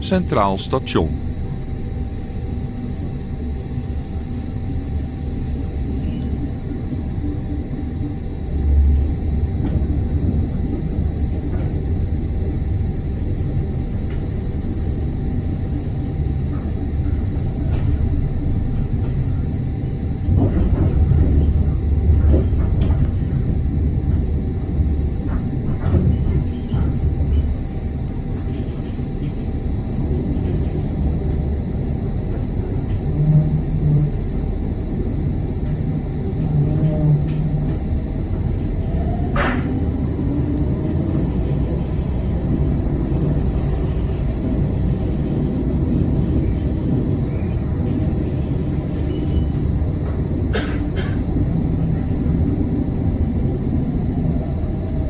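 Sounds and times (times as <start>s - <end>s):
tram rumbling on rails: 0.0s - 55.0s.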